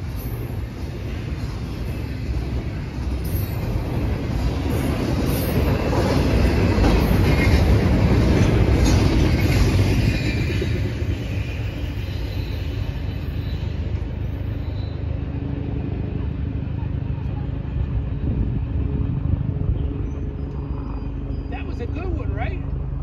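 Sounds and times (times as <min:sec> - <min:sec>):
train wheels rumbling and clacking: 0:00.0 - 0:19.5.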